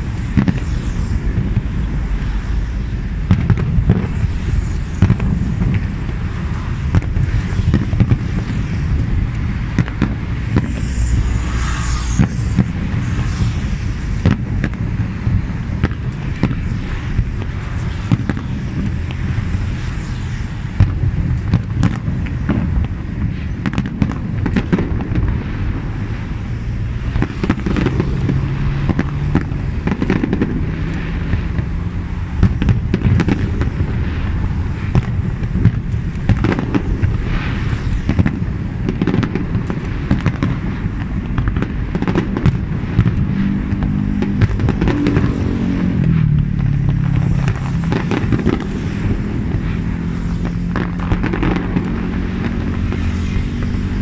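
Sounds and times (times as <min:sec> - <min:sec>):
fireworks bangs and crackles: 0:00.0 - 0:54.0
passing motor traffic rumble: 0:00.0 - 0:54.0.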